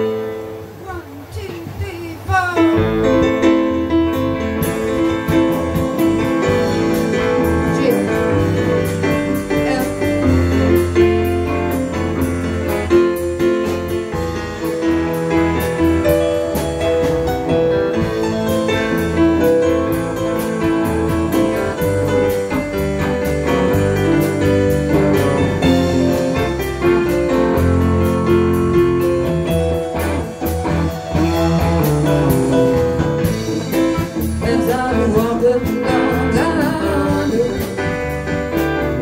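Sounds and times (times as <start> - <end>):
stage piano playing: 0.0 - 39.0
low bass line: 2.8 - 39.0.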